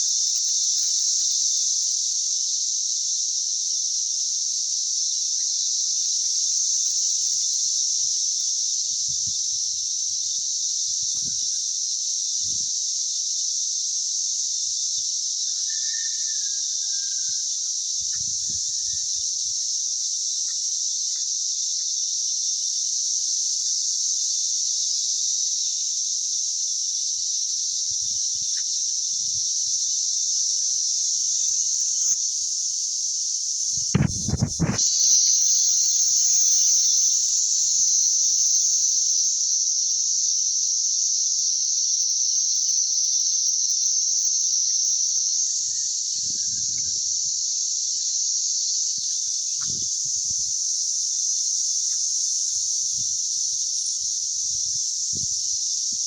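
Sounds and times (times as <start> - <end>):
cicada chorus buzzing: 0.0 - 56.0.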